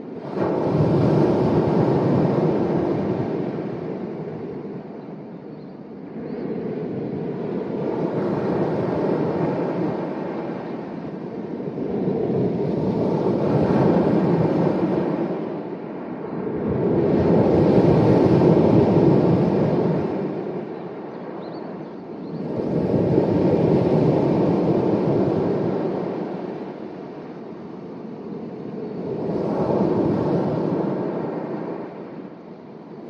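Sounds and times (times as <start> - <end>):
sea waves washing on shore: 0.0 - 4.8, 7.3 - 21.4, 22.3 - 33.0.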